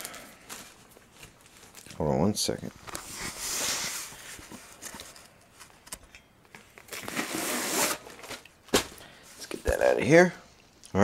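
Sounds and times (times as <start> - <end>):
packaging rustling and crinkling: 0.0 - 9.9.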